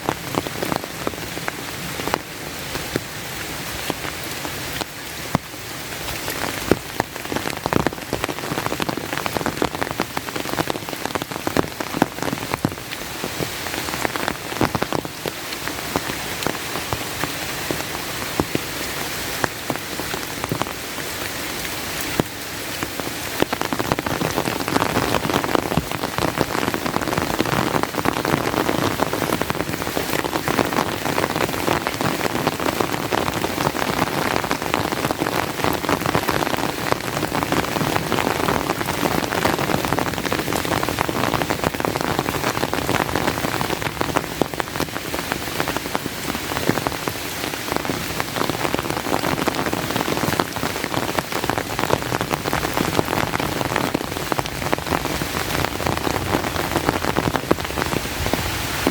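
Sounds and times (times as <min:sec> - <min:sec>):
raindrops ticking close by: 0:00.0 - 0:58.9
steady rain falling: 0:00.0 - 0:58.9.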